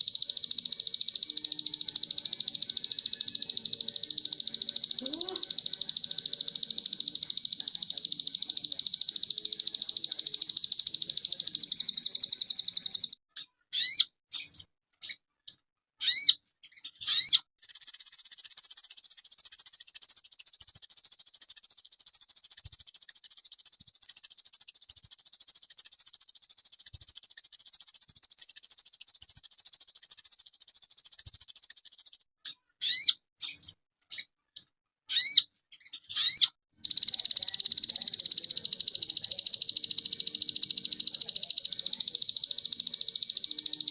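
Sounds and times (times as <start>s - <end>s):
bird singing trills: 0.0s - 14.0s, 17.0s - 34.2s, 36.1s - 43.9s.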